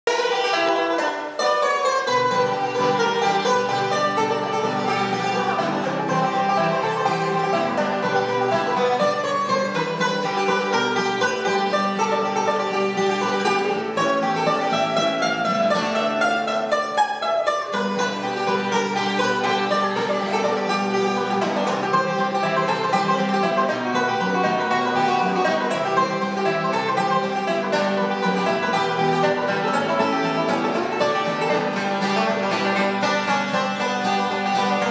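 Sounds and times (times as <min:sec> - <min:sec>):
banjo: 0:00.0 - 0:34.9
acoustic guitar: 0:00.1 - 0:34.9.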